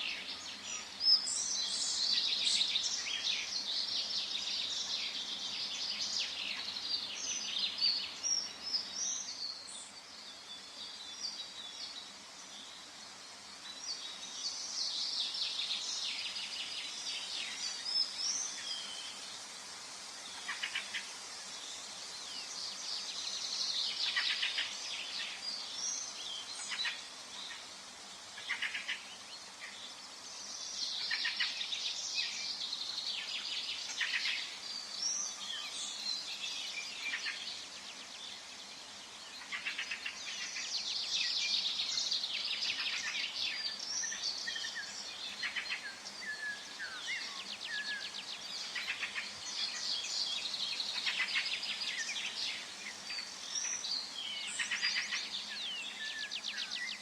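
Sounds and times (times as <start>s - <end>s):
faint forest hiss: 0.0s - 57.0s
songbirds singing: 0.0s - 57.0s.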